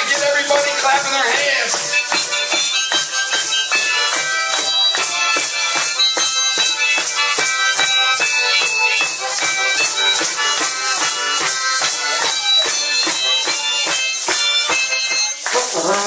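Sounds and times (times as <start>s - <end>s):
percussion beat: 0.0s - 16.0s
reedy wind instrument melody: 0.0s - 16.0s.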